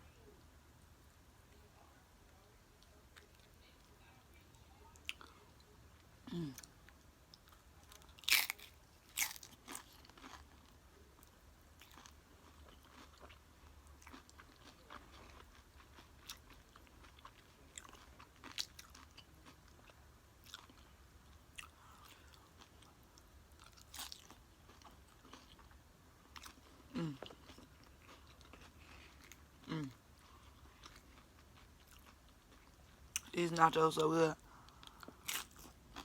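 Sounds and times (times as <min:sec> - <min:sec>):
chewing crunchy chips: 0:05.0 - 0:33.9, 0:34.5 - 0:36.0.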